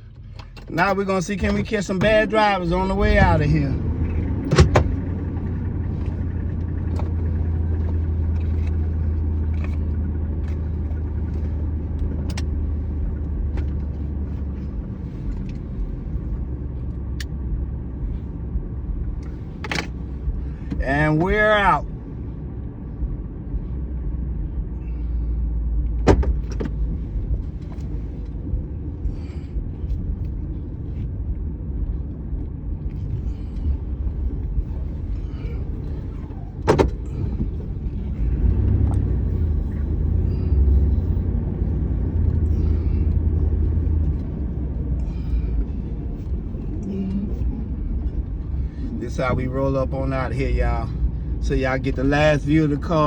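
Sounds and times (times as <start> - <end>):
car engine driving slowly: 0.0 - 53.0
road rumble: 0.0 - 53.0.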